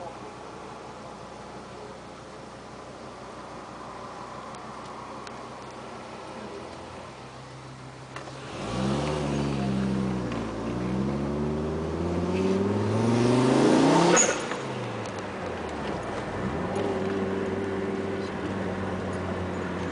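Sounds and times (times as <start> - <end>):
car engine accelerating: 1.8 - 19.9.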